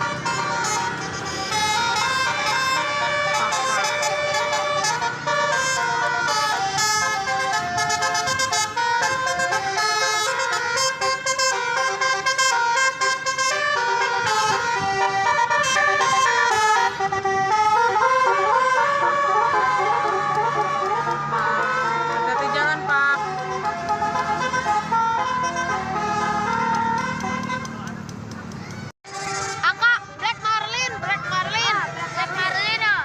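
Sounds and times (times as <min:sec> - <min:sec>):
multi-tone bus horn melody: 0:00.0 - 0:28.0, 0:29.0 - 0:33.0.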